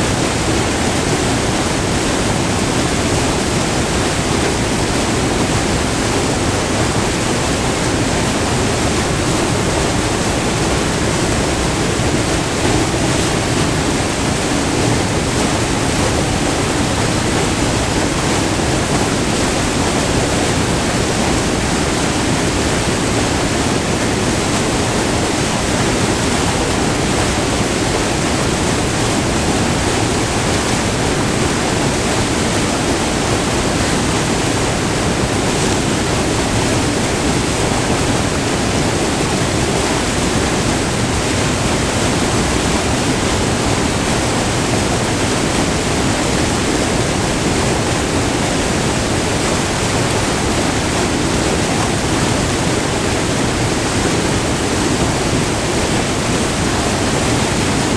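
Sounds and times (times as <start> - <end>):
waterfall roaring over rock: 0.0 - 57.9.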